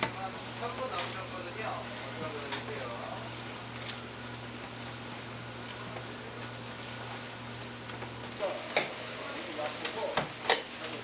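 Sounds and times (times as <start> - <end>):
meat being kneaded wet squish: 0.0 - 11.0.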